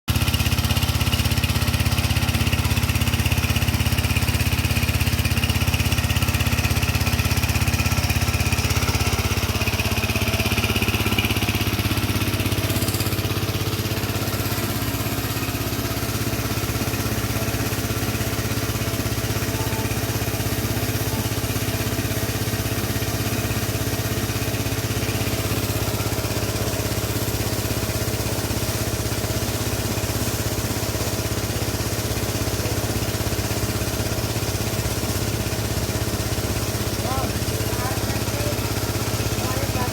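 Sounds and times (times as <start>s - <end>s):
pressure washer engine running: 0.1s - 39.9s.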